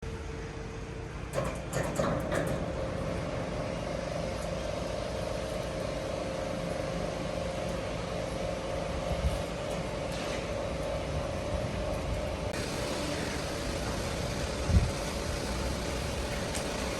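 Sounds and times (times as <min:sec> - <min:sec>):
heavy machinery humming: 0:00.1 - 0:16.9.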